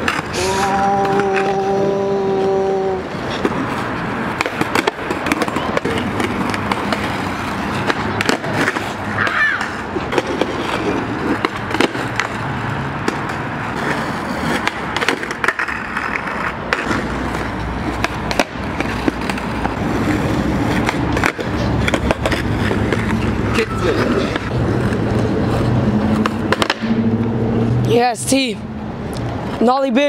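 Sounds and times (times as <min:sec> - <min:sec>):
skateboard clacking on concrete: 0:00.0 - 0:26.9
skateboard wheels rolling on concrete: 0:00.0 - 0:30.0.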